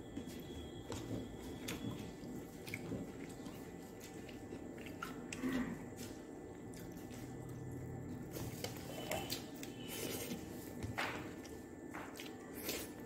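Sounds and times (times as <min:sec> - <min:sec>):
chewing: 0:00.3 - 0:13.0.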